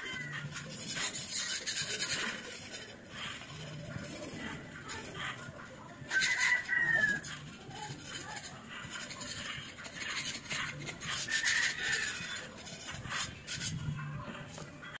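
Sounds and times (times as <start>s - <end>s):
hand scraper rasping on wall: 0.0s - 5.4s, 6.1s - 13.8s.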